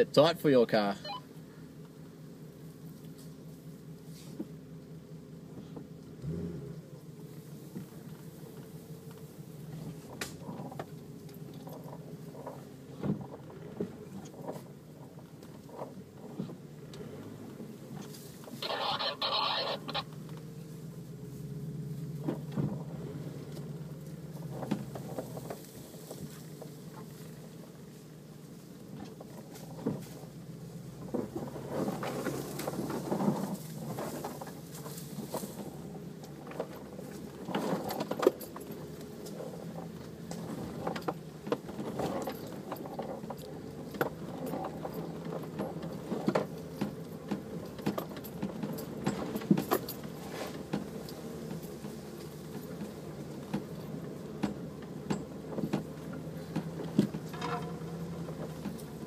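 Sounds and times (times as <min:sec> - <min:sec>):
engine running at low revs: 0:00.0 - 0:59.0
vehicle knocks and rattles: 0:07.0 - 0:19.0, 0:20.1 - 0:59.0.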